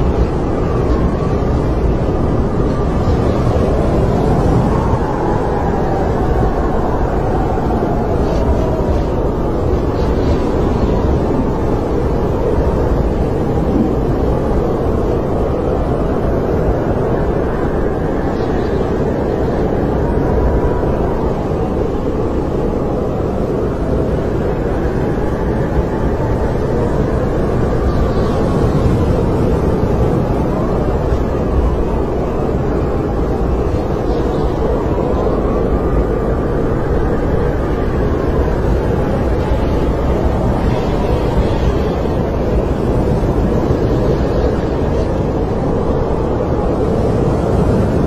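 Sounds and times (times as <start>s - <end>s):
snowstorm wind rushing: 0.0s - 48.0s
wind whistle: 0.0s - 48.0s.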